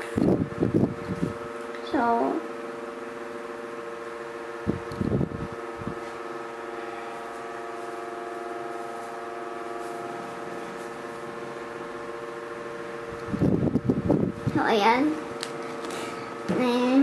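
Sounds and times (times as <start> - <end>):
fan motor hum: 0.0 - 17.0.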